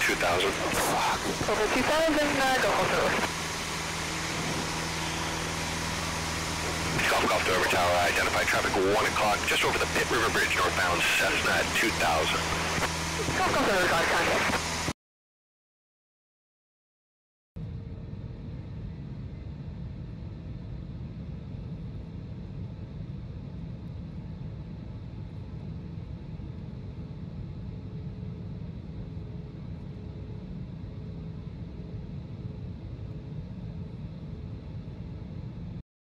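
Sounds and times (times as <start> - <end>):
faint steady hum: 0.0 - 14.9, 17.6 - 35.8
jet engines and airflow rumble: 0.0 - 15.0, 17.6 - 35.8.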